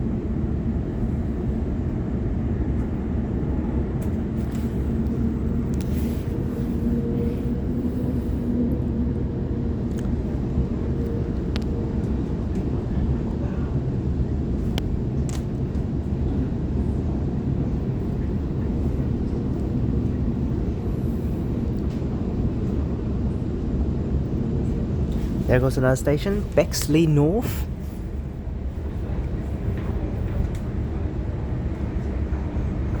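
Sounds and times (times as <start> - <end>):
train wheels rumbling on rail: 0.0 - 26.8, 27.4 - 33.0.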